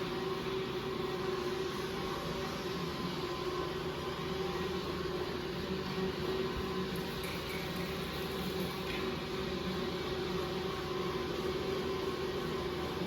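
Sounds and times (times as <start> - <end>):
floor-cleaning machine motor humming: 0.0 - 13.0.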